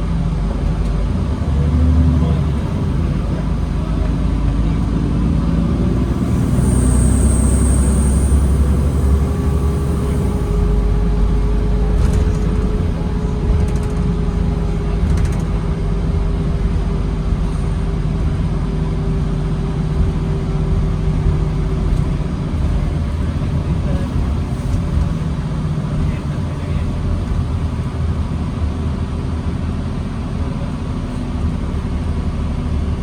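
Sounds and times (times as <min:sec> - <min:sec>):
diesel bus engine rumbling: 0:00.0 - 0:33.0.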